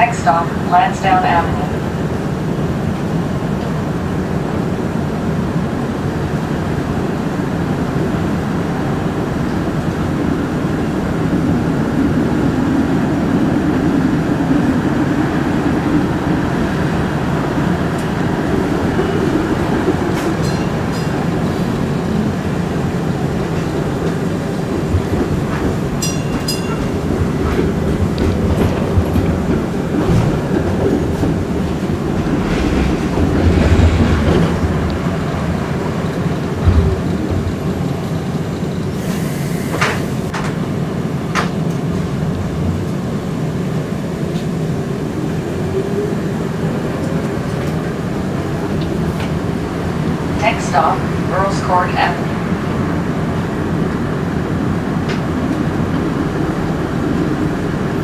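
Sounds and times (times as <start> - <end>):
streetcar wheels rumbling: 0.0 - 58.0.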